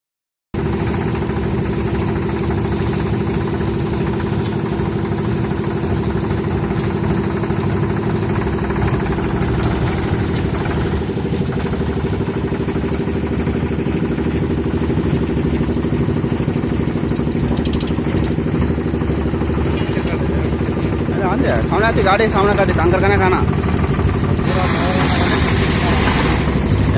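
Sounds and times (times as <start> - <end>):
tractor engine running: 0.6 - 26.9.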